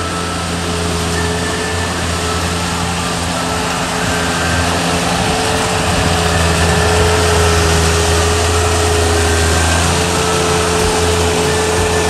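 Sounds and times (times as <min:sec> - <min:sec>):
power trowel engine running: 0:00.0 - 0:12.0.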